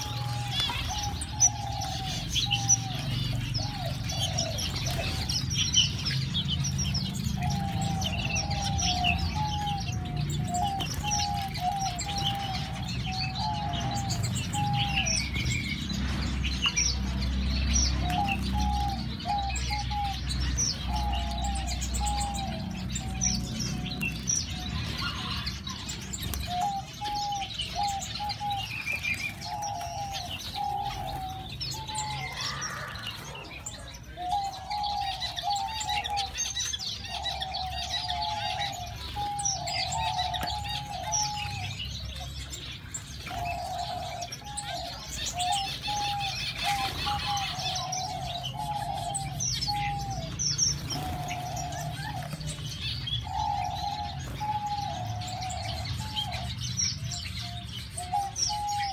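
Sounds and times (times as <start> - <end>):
finches chirping and twittering: 0.0 - 58.9.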